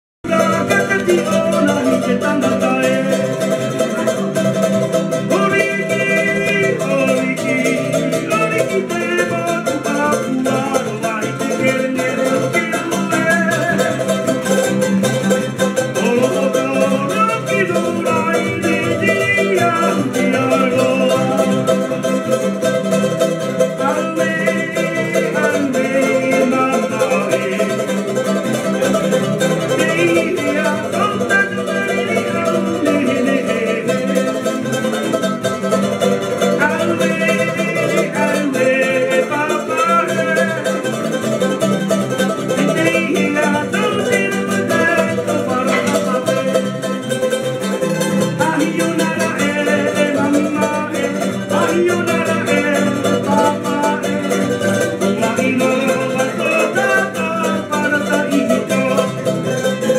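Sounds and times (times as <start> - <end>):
acoustic guitar strumming: 0.2 - 59.9
man singing: 0.2 - 59.9
ukulele strumming: 0.2 - 59.9.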